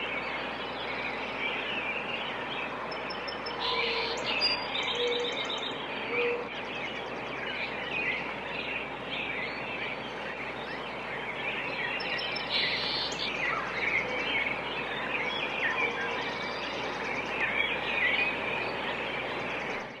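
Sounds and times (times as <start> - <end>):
many birds chirping: 0.0 - 20.0
steady background hiss: 0.0 - 20.0.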